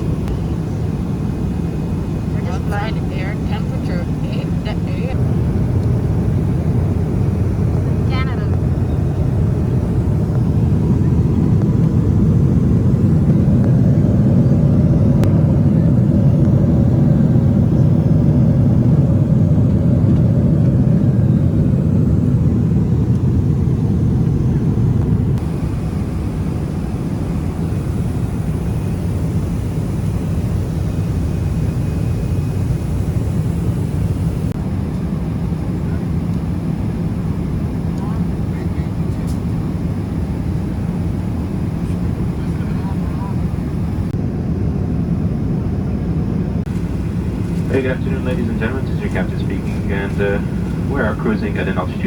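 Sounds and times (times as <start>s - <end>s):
airliner cabin engine rush: 0.0s - 52.0s.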